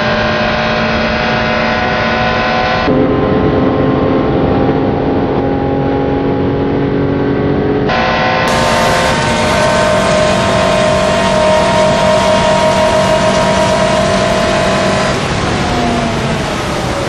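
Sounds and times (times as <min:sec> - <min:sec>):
car engine at speed: 0:00.0 - 0:17.0.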